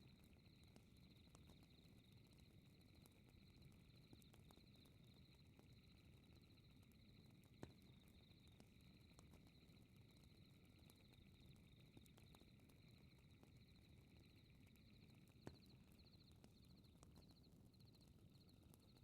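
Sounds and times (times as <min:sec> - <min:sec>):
pulsing chirp of night insects: 0:00.0 - 0:19.0.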